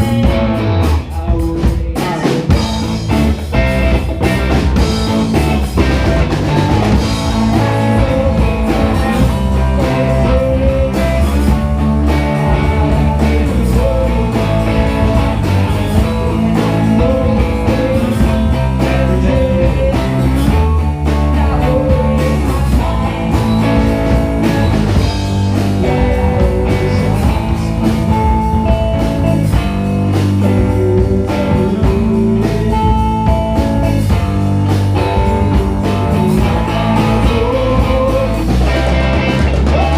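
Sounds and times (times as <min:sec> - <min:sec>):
bass and drum groove: 0:00.0 - 0:39.9
electric guitar: 0:00.0 - 0:39.9
live band playing blues-rock: 0:00.0 - 0:39.9.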